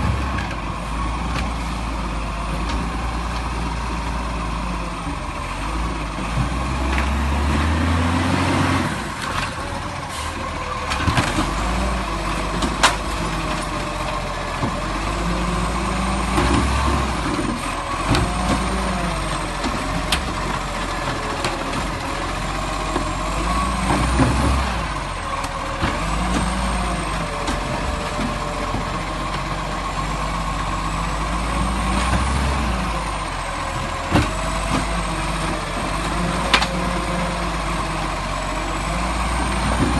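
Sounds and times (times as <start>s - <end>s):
garbage truck engine running: 0.0s - 39.9s.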